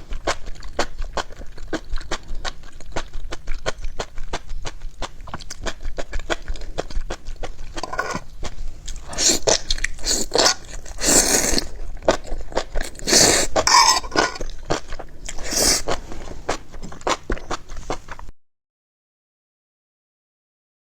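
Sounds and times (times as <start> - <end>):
crunchy food chewing: 0.0 - 18.3.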